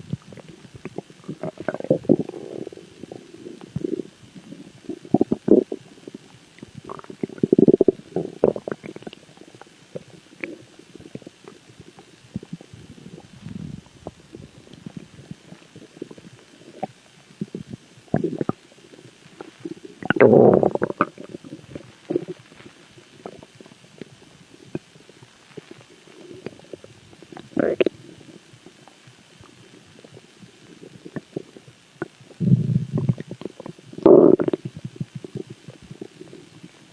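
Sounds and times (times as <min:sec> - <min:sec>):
stomach growling: 0:00.0 - 0:36.9.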